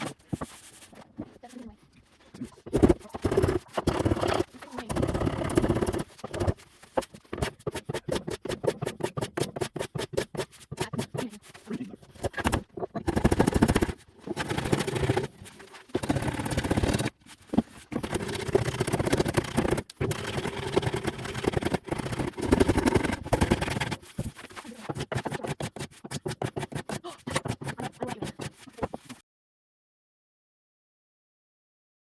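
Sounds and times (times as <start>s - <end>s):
hand plane scraping wood: 0.0s - 29.2s.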